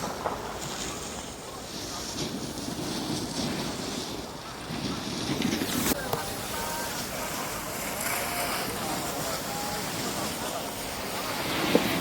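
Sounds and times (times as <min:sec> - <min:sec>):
ski edges scraping packed snow: 0:00.0 - 0:12.0
wind on microphone: 0:00.0 - 0:12.0.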